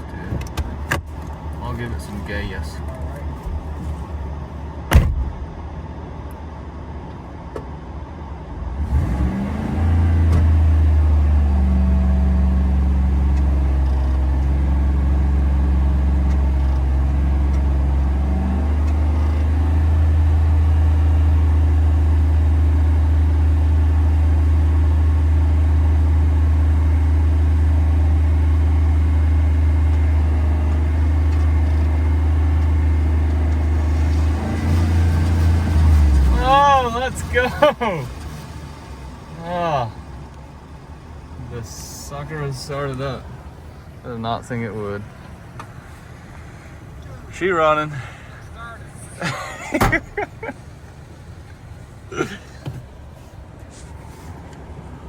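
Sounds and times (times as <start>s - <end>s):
pickup truck engine starting: 7.8s - 55.0s.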